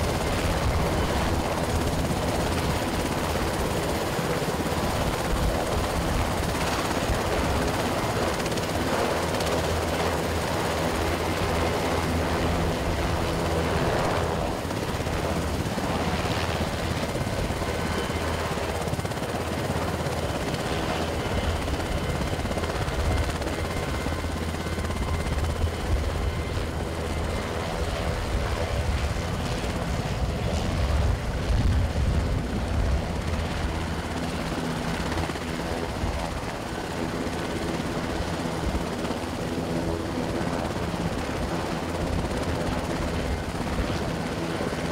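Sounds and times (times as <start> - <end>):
helicopter engines: 0.0 - 44.9
helicopter rotor throb: 0.0 - 44.9.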